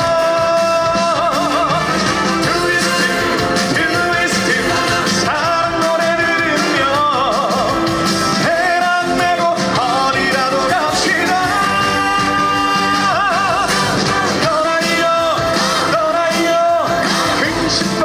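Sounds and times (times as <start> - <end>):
full band backing: 0.0 - 18.0.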